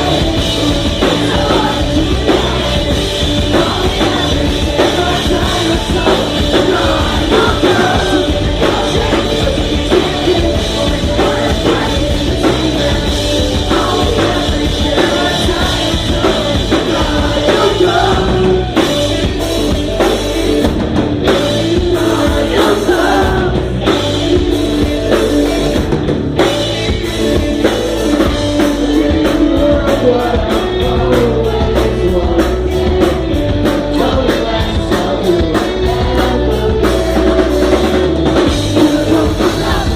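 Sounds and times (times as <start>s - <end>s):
person singing: 0.0s - 20.7s, 21.3s - 25.8s, 27.0s - 39.9s
drum kit: 0.0s - 39.9s
rock band playing live: 0.0s - 39.9s.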